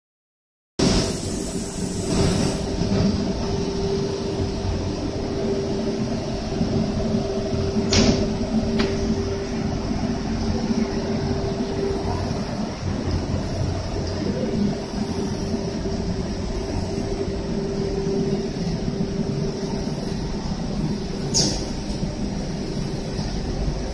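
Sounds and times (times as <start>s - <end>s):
machine humming: 0.8s - 23.9s.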